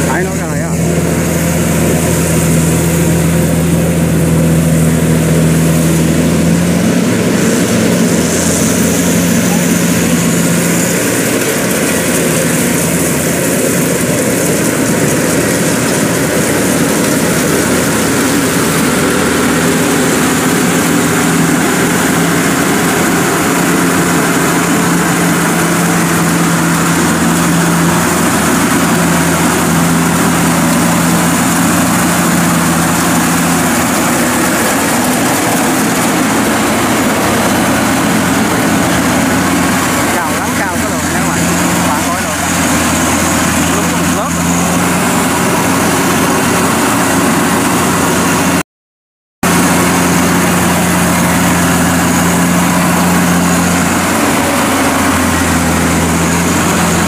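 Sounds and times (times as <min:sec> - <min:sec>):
combine harvester engine drone: 0:00.0 - 0:48.6, 0:49.4 - 0:57.0.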